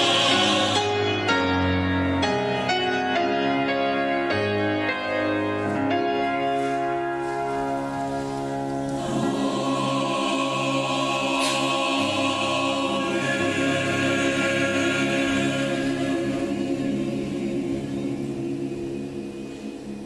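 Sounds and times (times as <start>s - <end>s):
choir holding a chord: 0.0s - 5.7s, 6.6s - 20.0s.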